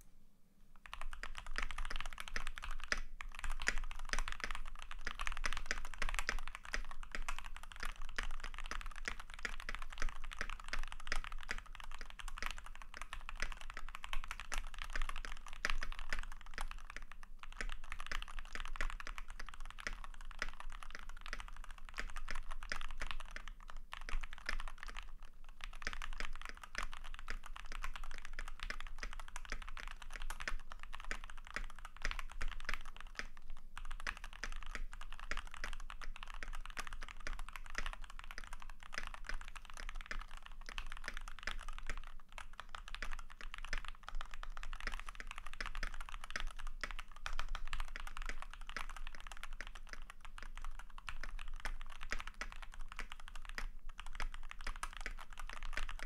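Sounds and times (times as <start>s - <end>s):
fast typing on mechanical keyboard: 0.8s - 56.0s.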